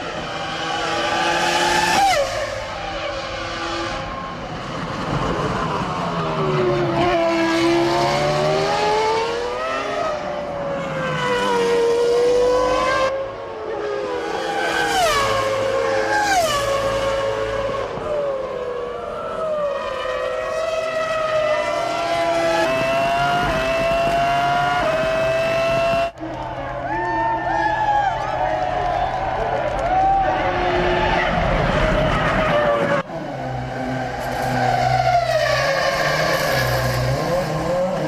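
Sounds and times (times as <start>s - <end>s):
racing car engines: 0.0s - 38.0s.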